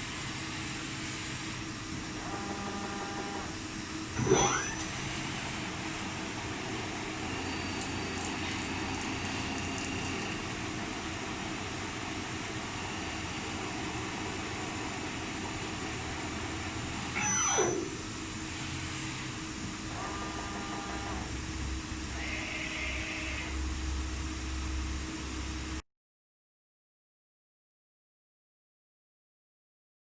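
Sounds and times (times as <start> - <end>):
machine hum with steady tones: 0.0 - 25.8.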